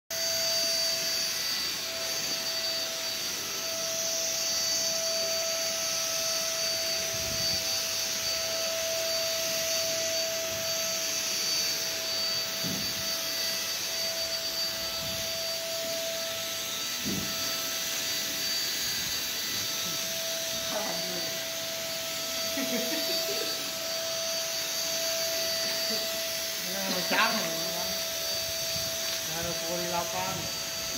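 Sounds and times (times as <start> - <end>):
electric spray gun whining and hissing: 0.1 - 30.9.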